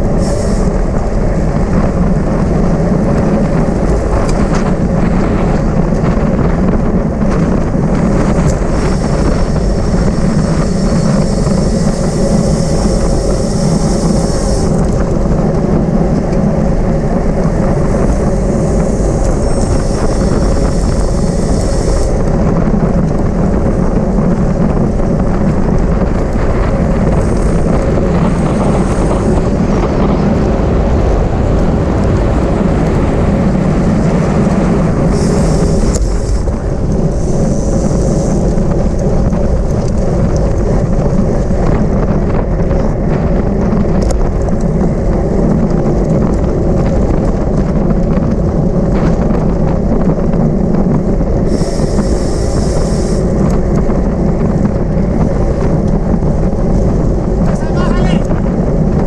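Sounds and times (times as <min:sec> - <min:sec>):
wind rush on microphone: 0:00.0 - 0:59.0.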